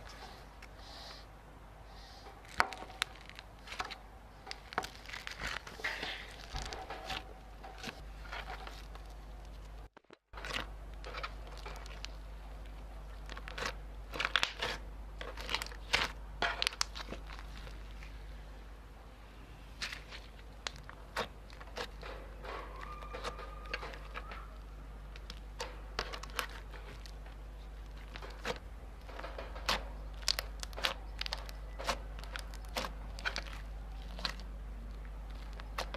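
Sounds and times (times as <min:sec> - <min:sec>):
slime squished crackling: 0:02.4 - 0:18.2, 0:19.7 - 0:35.9.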